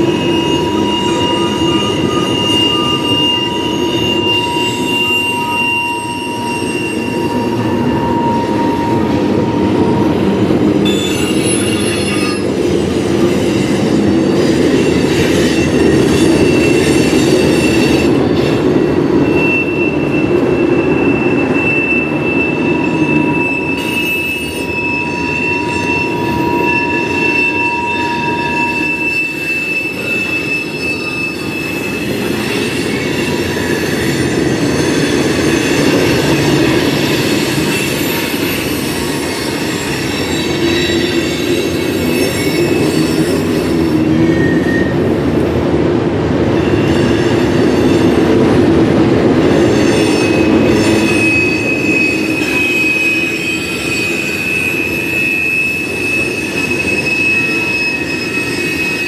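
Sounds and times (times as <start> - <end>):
railroad car wheels rumbling: 0.0 - 59.0
steel wheels squealing on rail: 0.0 - 59.0.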